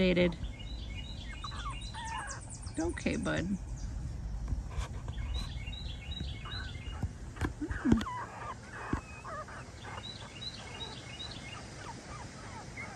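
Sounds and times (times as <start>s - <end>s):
songbird chirping: 0.0s - 12.9s
puppies squeaking and yipping: 0.8s - 3.4s, 5.0s - 12.9s.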